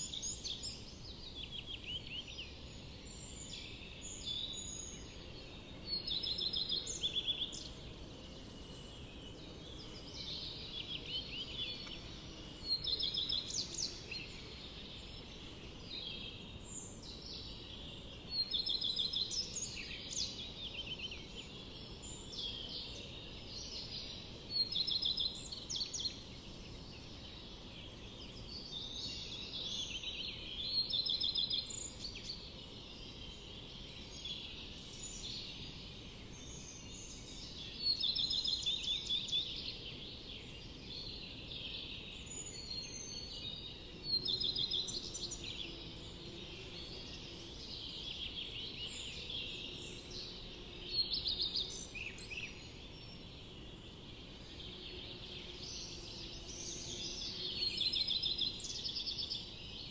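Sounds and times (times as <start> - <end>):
low background hiss: 0.0 - 59.9.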